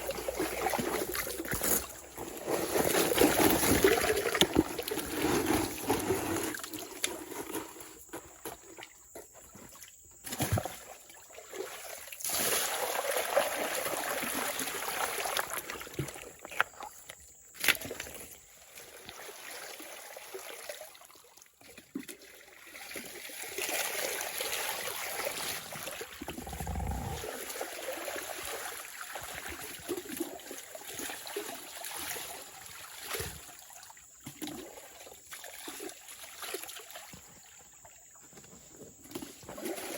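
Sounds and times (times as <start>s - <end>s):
water splashes: 0.0s - 7.0s, 10.3s - 17.0s, 17.6s - 37.5s
water sloshing and trickling: 0.0s - 39.9s.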